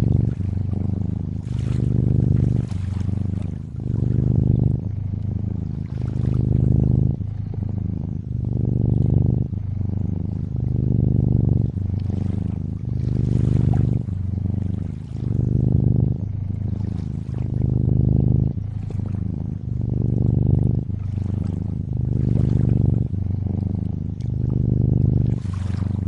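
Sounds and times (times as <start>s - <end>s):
cat purring: 0.0s - 26.0s
lapping water: 0.0s - 26.0s.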